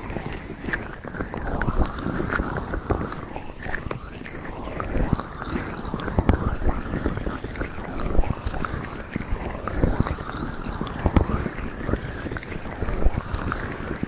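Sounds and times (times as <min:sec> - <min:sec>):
hands rubbing on a microphone: 0:00.0 - 0:14.0.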